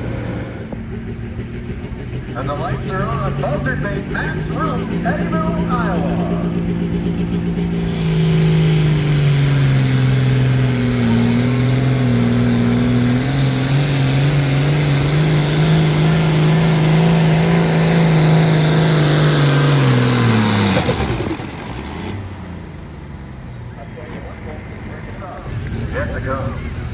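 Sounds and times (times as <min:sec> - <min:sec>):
pulling engine at full throttle: 0:00.0 - 0:26.9.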